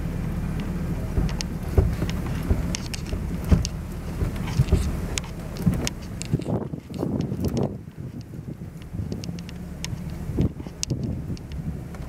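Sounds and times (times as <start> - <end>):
car engine and tyres rumbling: 0.0 - 12.0
sharp clicks and pops: 0.6 - 12.0.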